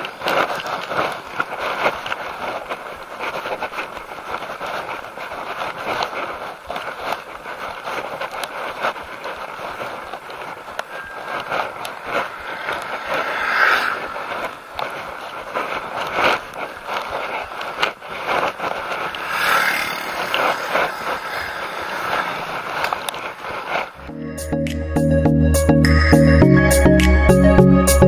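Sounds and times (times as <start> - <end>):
bicycle frame rattling: 0.0 - 24.0
bicycle tyres rolling on asphalt: 0.0 - 24.1.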